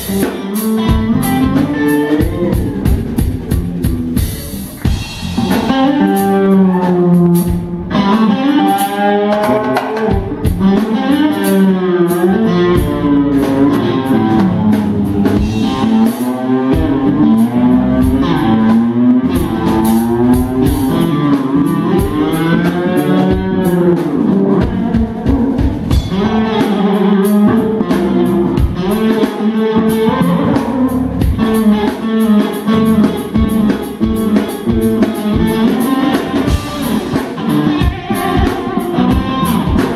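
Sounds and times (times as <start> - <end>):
bass guitar: 0.0 - 39.9
drum kit: 0.0 - 39.9
electric guitar lead melody: 0.0 - 39.9.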